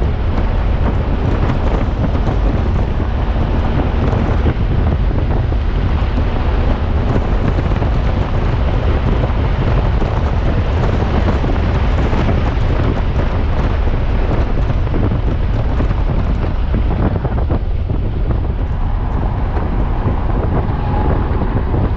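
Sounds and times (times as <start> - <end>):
car cabin engine and road rumble: 0.0 - 21.9
wind buffeting microphone: 0.0 - 21.9.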